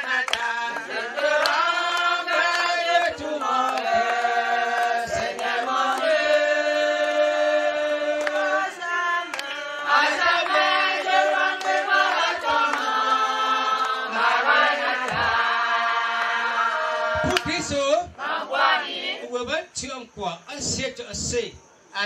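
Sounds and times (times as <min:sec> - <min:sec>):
group of people singing: 0:00.0 - 0:19.4.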